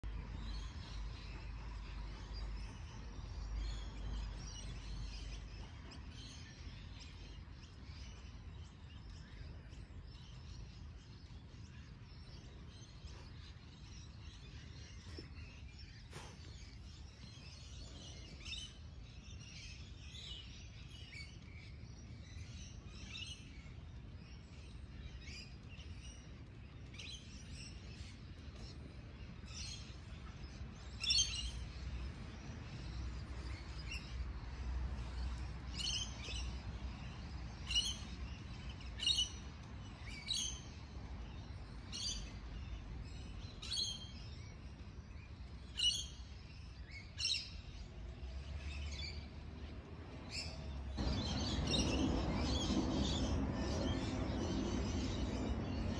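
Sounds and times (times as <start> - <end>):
wild birds chirping: 0.0 - 55.9.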